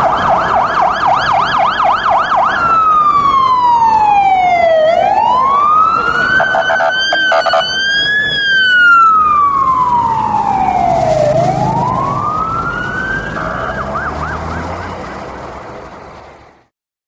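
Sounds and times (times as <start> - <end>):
ambulance siren wailing: 0.0 - 15.6.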